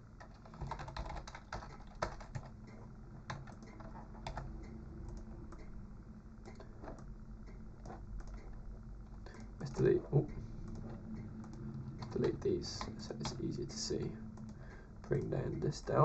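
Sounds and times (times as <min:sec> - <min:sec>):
computer keyboard typing: 0:00.2 - 0:05.7, 0:06.4 - 0:16.0.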